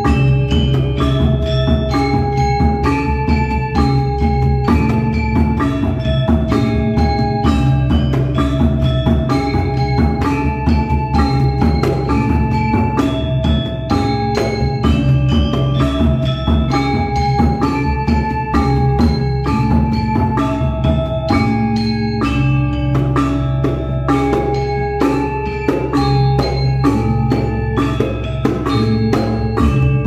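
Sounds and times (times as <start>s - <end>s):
low drum: 0.0s - 30.0s
metallophones ringing: 0.0s - 30.0s.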